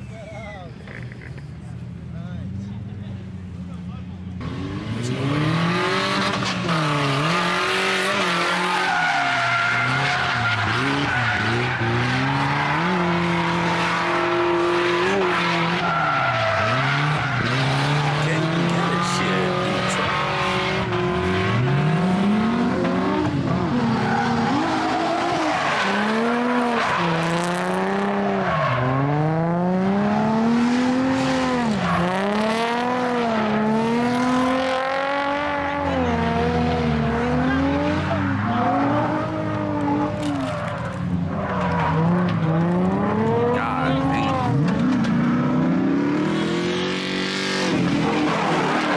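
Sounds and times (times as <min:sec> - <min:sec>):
car engine revving: 0:04.4 - 0:48.9.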